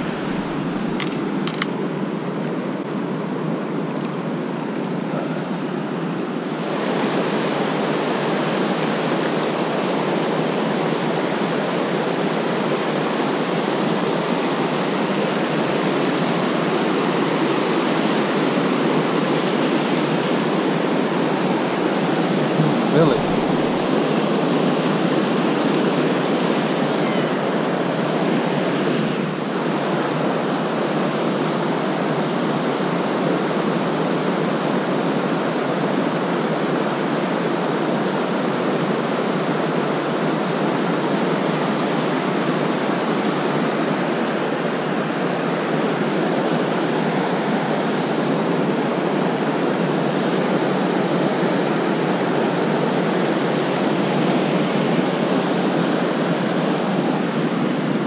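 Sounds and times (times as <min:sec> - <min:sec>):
water rushing over rocks: 0:00.0 - 0:01.6, 0:04.7 - 0:58.0.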